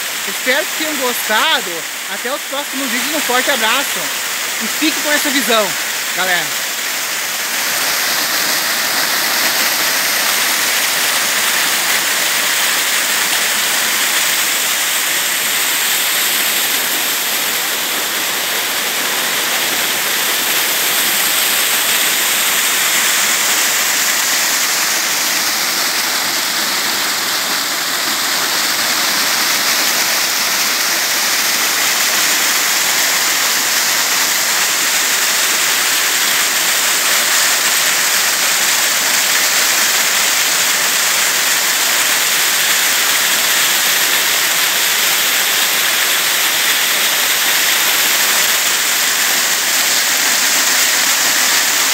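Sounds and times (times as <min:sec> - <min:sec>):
waterfall rushing over rocks: 0:00.0 - 0:51.9.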